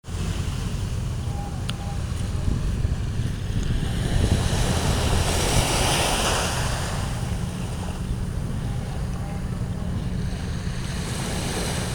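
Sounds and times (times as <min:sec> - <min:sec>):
wave breaking and washing in: 0:00.1 - 0:11.9
wind rumble on microphone: 0:00.1 - 0:11.9.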